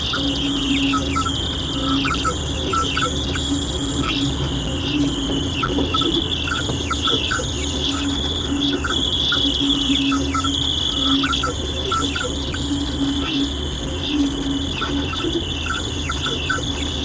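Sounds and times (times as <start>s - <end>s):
low hum: 0.0s - 17.0s
radio chirping and warbling: 0.0s - 17.0s.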